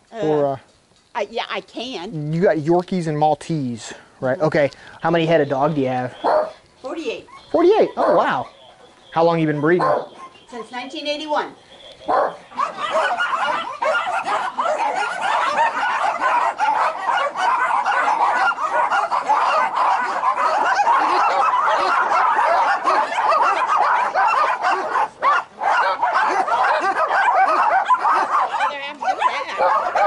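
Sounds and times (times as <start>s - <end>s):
small dogs barking and yapping: 4.6s - 30.0s.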